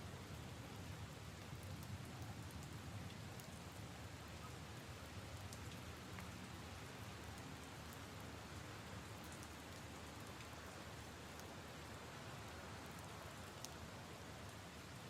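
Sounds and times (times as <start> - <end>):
rain on leaves and puddles: 0.0 - 15.0
raindrops ticking close by: 0.1 - 15.0.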